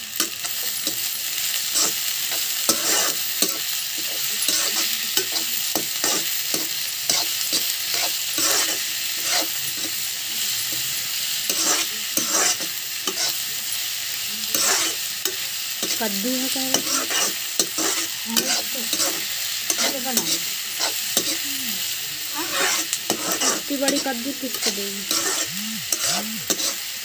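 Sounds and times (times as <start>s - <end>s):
spatula scraping wok: 0.0s - 27.0s
vegetables sizzling in oil: 0.0s - 27.0s.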